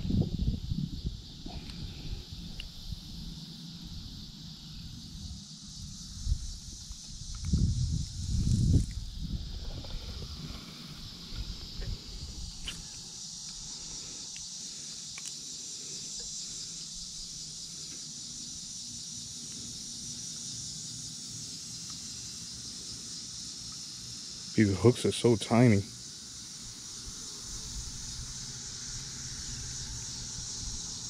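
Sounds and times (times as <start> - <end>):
insect chorus buzzing: 0.0 - 31.0.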